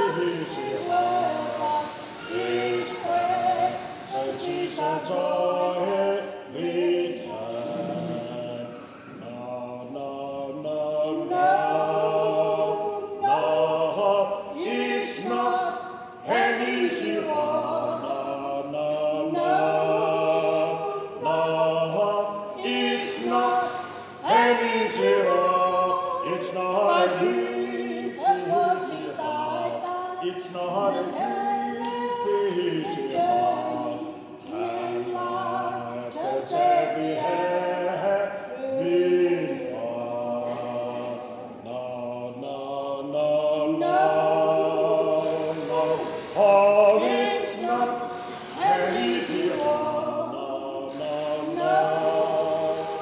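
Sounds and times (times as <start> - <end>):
man and woman singing duet: 0.0 - 53.0.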